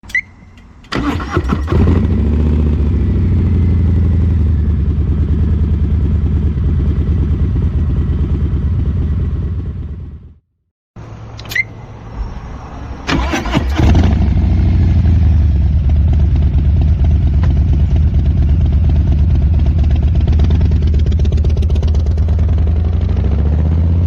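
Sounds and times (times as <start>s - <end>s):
motorcycle engine starting and idling: 0.1s - 10.4s, 13.0s - 24.0s.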